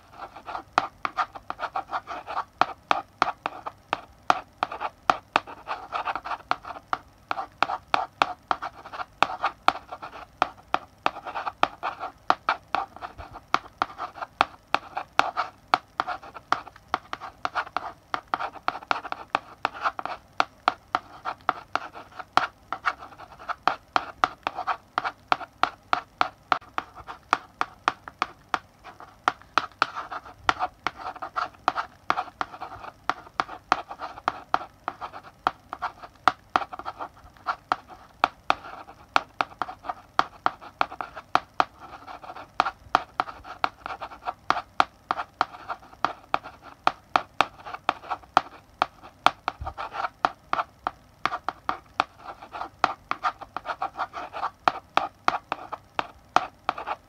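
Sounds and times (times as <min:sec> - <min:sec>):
chalk writing on blackboard: 0:00.0 - 0:57.0.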